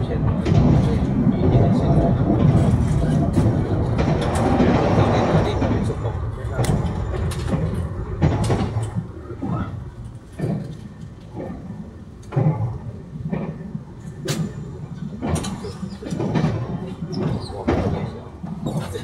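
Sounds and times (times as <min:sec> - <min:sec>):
knocks and rattles: 0:00.0 - 0:19.0
train interior rumble: 0:00.0 - 0:19.0.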